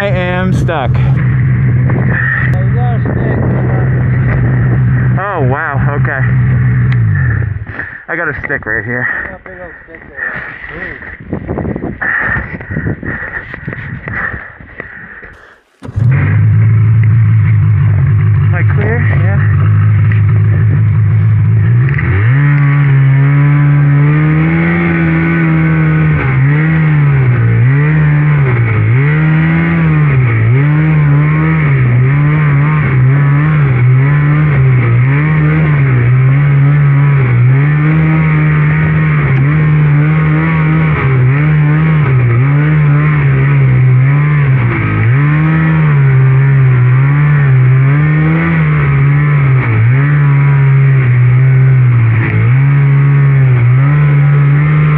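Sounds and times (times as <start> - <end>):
snowmobile engine revving: 0.0 - 11.2, 15.4 - 54.9.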